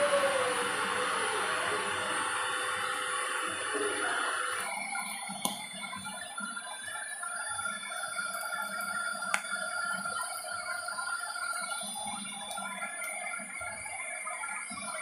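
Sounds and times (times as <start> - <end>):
fish sizzling and spitting: 0.0 - 15.0
heat gun whine and hum: 0.0 - 15.0.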